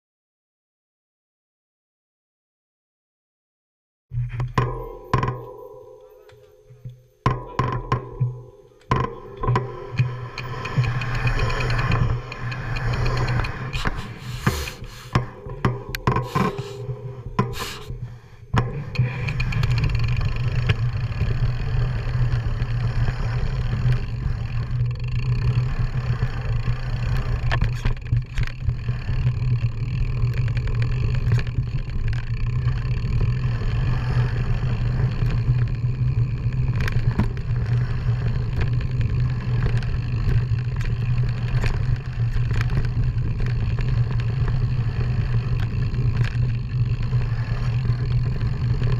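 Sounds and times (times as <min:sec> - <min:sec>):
scraping and clattering on rough ground: 0:04.2 - 0:48.9
motorcycle engine running: 0:04.6 - 0:48.9.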